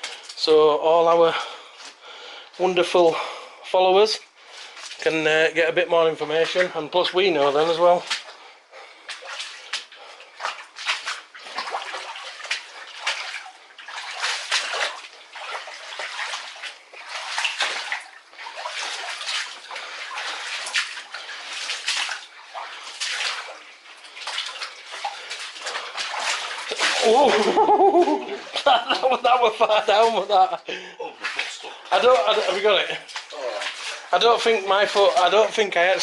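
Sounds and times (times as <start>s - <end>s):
footsteps splashing in water: 0.0s - 0.5s, 4.2s - 36.0s.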